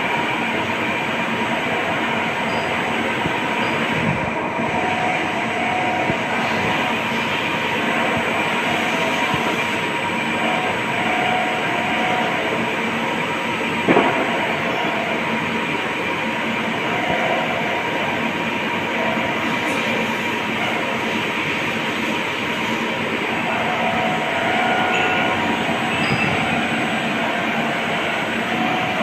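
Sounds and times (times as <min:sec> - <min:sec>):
workshop machinery noise: 0:00.0 - 0:29.0.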